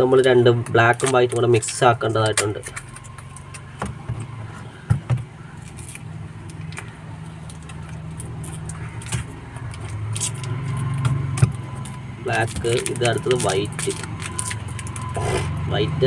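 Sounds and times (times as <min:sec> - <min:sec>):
low motor hum: 0:00.0 - 0:16.0
plastic wrapper crinkling and tearing: 0:00.1 - 0:03.8, 0:05.5 - 0:15.6.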